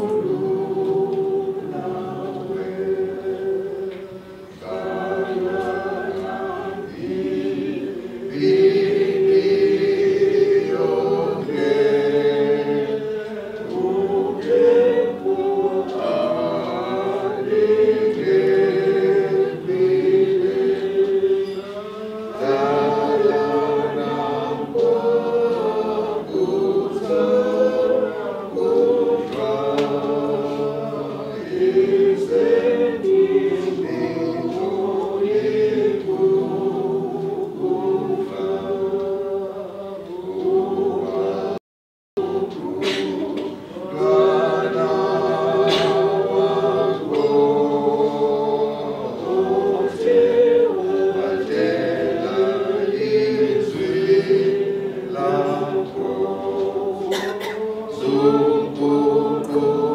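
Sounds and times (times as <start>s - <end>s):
group singing a hymn: 0.0s - 41.6s, 42.2s - 59.9s.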